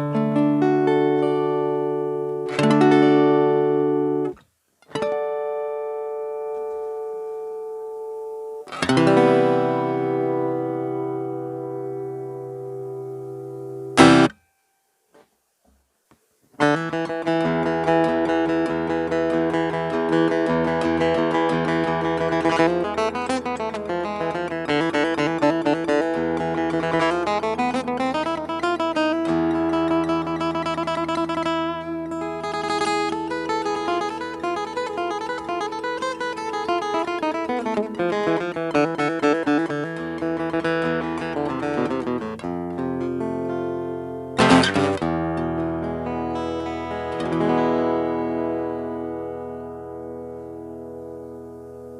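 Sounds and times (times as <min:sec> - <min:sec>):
acoustic guitar playing: 0:00.0 - 0:15.3, 0:16.5 - 0:51.9.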